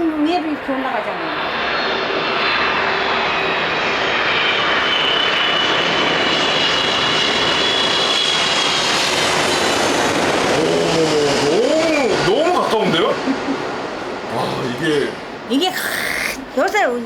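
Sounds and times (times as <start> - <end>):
jet airliner passing overhead: 0.0 - 16.7.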